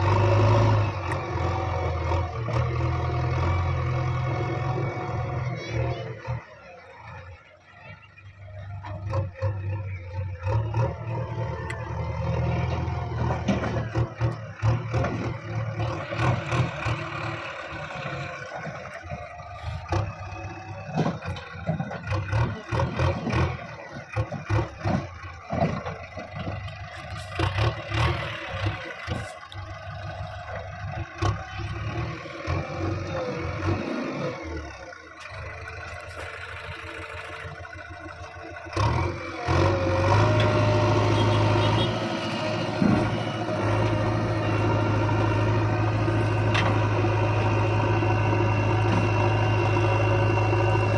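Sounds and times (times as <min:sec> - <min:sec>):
diesel machinery revving: 0:00.0 - 0:50.9.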